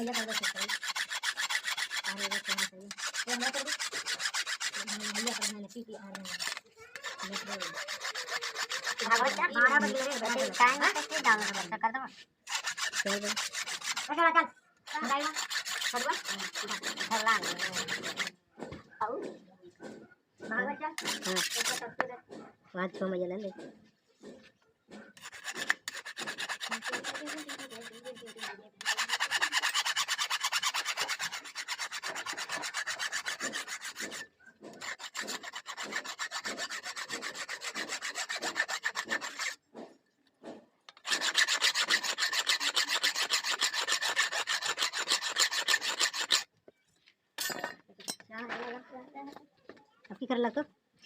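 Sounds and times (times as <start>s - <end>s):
file rasping on blade: 0.0s - 14.3s, 14.9s - 46.5s.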